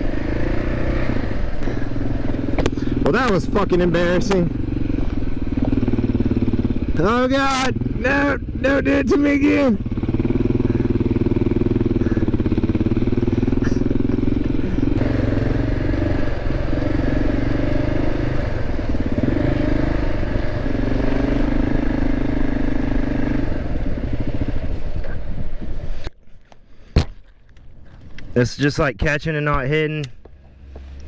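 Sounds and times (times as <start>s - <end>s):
motorcycle engine revving: 0.0s - 26.1s.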